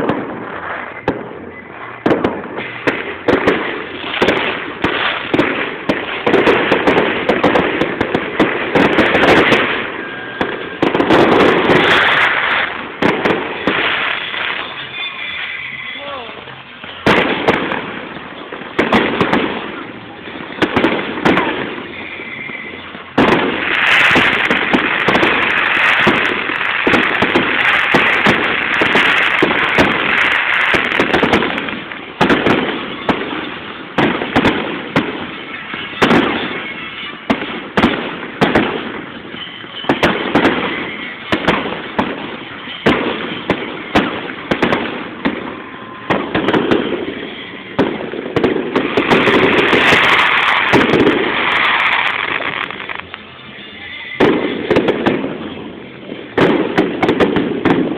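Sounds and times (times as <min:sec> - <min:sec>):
fireworks crackling and booming: 0:00.0 - 0:57.9.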